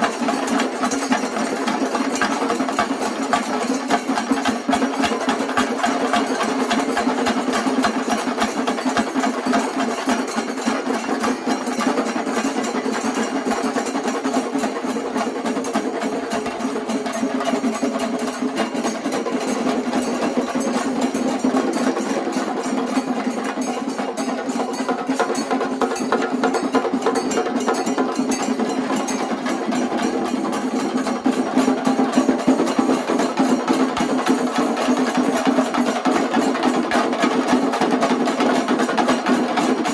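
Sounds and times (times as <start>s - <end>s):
chenda drums beaten with sticks: 0.0s - 39.9s.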